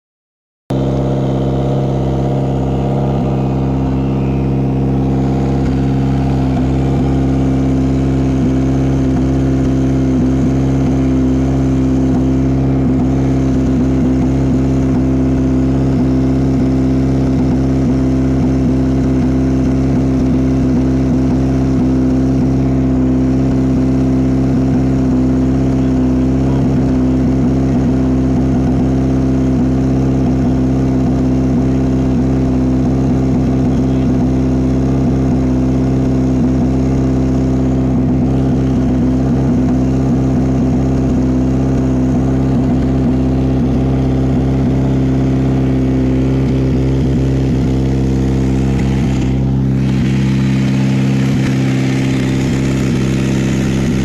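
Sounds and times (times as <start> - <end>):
car engine idling: 0.7 - 54.0.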